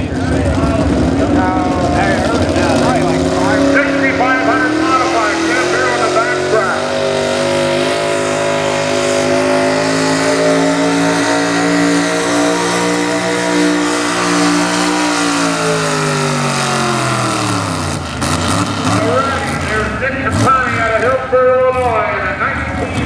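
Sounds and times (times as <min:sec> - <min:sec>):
pickup engine at high revs: 0:00.0 - 0:23.0.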